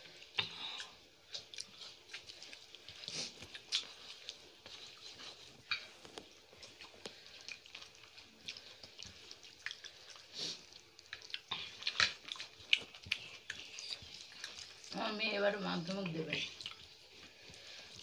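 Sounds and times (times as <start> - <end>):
fingers mixing rice on plates: 0.0 - 18.0
people chewing and lip smacking: 0.0 - 18.0.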